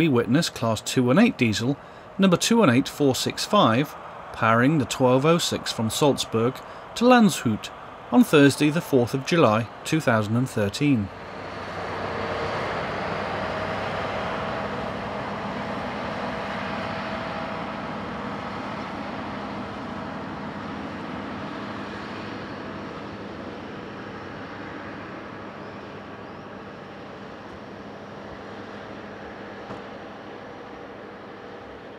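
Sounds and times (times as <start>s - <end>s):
diesel locomotive engine droning: 0.0s - 31.9s.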